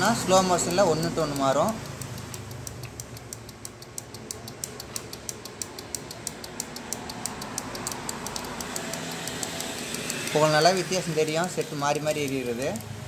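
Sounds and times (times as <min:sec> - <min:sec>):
relay clicking rapidly: 0:00.0 - 0:13.0.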